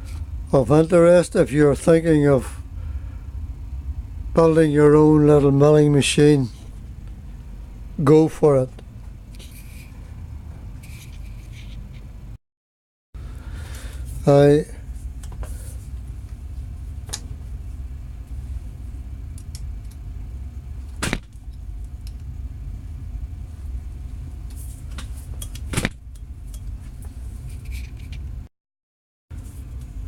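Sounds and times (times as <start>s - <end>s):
steady low rumble: 0.0s - 12.4s, 13.2s - 28.5s.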